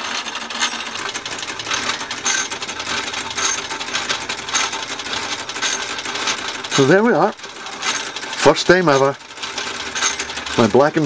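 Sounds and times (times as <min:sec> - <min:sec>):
model engine gears rattling: 0:00.0 - 0:11.0.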